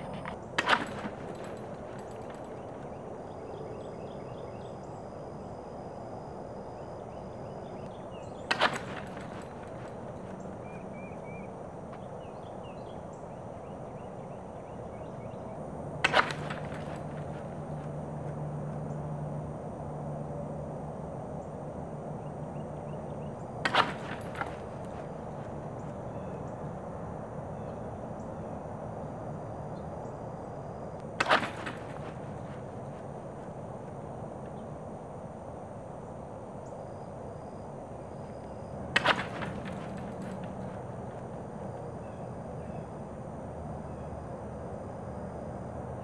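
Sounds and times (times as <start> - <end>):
high insect drone: 0.0 - 46.0
outdoor background noise: 0.0 - 46.0
steady low hum: 0.0 - 46.0.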